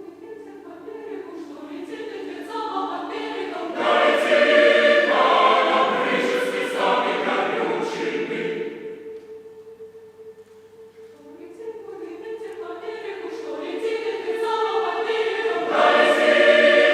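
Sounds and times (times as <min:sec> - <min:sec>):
choir singing held chords: 0:00.2 - 0:16.9.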